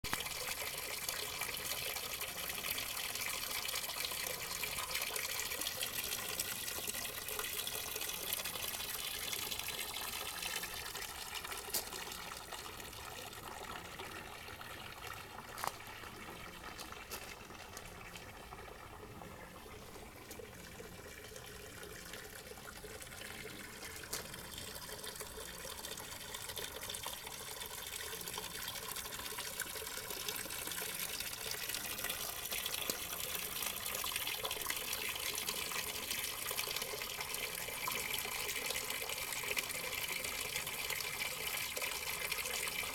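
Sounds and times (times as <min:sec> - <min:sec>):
water trickling into stone basin: 0:00.0 - 0:42.9.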